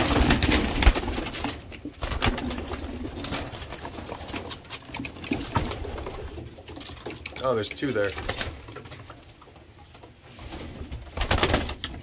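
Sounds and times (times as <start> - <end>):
pigeons cooing: 0.0 - 9.9.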